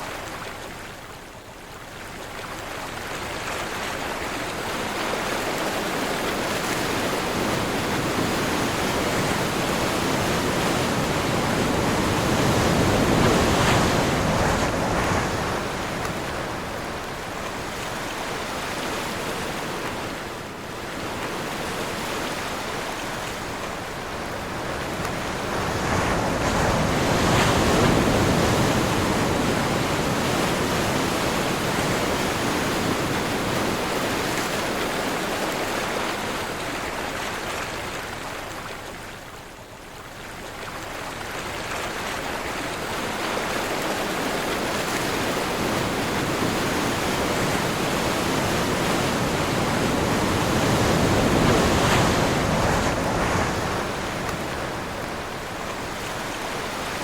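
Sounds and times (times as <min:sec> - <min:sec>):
sea waves breaking: 0:02.8 - 0:39.4, 0:40.5 - 0:57.0.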